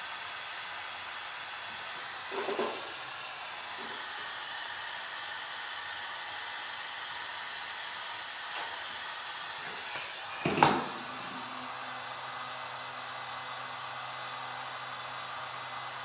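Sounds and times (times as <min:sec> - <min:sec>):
heat gun blowing hiss: 0:00.0 - 0:16.0.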